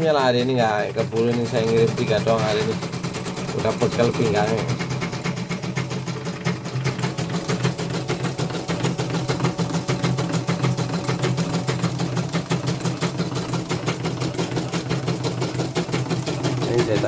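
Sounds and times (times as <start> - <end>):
embroidery machine motor hum: 0.0 - 17.0
needle strokes ticking: 0.0 - 17.0.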